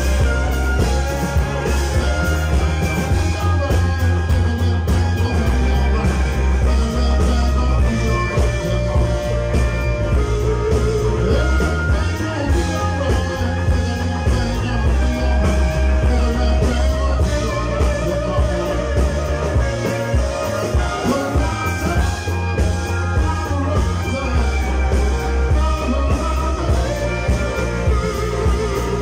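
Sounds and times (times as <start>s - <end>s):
bass guitar: 0.0s - 29.0s
drum kit: 0.0s - 29.0s
electric guitar: 0.0s - 29.0s.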